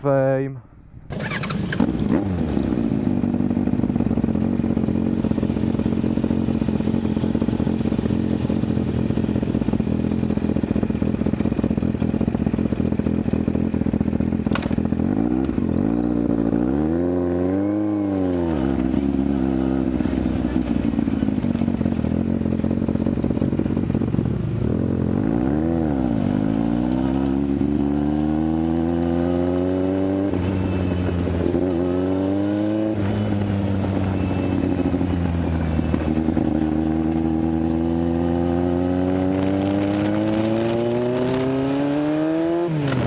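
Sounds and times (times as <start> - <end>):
motorcycle engine idling and revving: 0.8 - 43.0.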